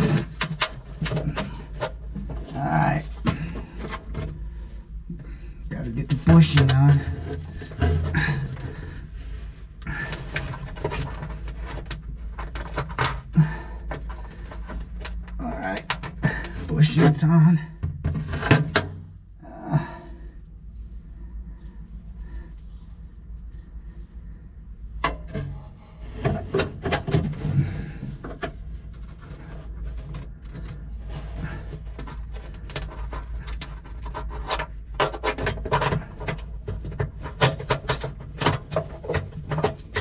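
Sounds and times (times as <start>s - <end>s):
rubbing and clicking of small parts: 0.0s - 19.2s, 21.5s - 40.0s
steady low hum: 0.0s - 40.0s.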